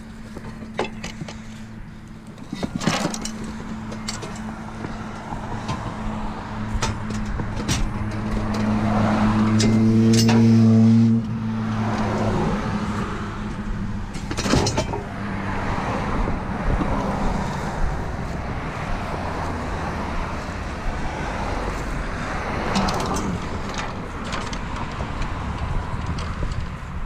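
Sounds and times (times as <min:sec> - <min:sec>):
street noise: 0:00.0 - 0:27.0
vehicle engine humming: 0:00.0 - 0:27.0.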